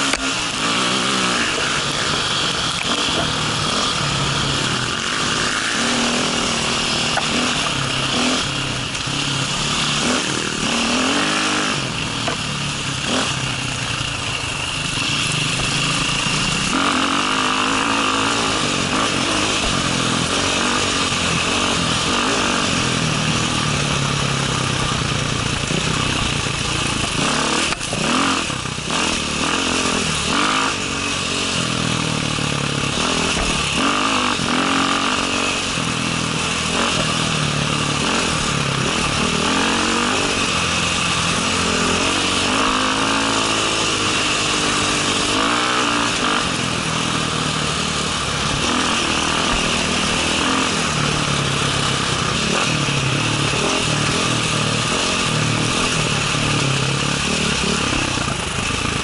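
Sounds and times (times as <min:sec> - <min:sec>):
motorcycle engine revving: 0:00.0 - 0:59.0
wind and riding noise: 0:00.0 - 0:59.0.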